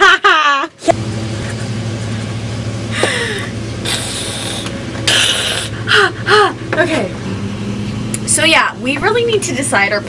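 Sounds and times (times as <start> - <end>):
lawnmower engine running: 0.9 - 10.0.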